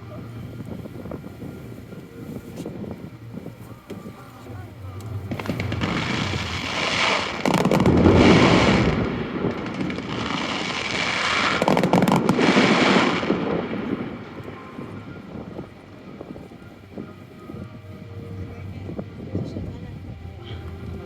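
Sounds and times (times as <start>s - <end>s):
fireworks bursting and crackling: 0.0s - 17.1s.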